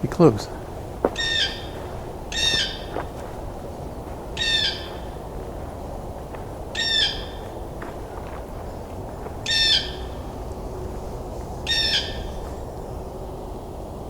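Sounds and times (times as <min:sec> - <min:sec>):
blue jay calling: 0:00.0 - 0:14.0.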